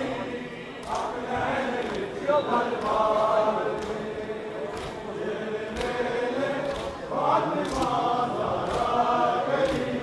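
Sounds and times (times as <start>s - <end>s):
crowd of men chanting: 0.0s - 10.0s.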